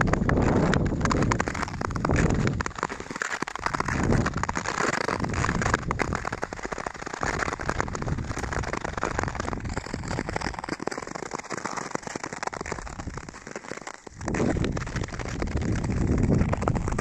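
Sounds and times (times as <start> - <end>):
skate blades scraping over ice: 0.0 - 17.0.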